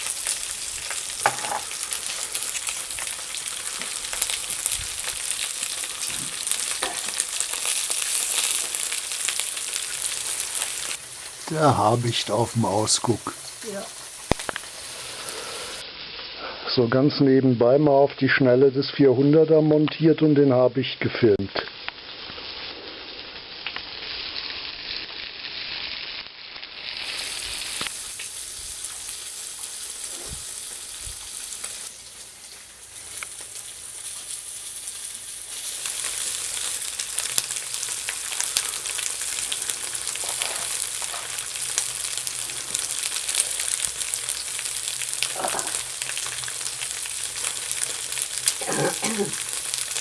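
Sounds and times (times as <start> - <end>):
meat sizzling on a grill: 0.0 - 19.4, 21.2 - 50.0.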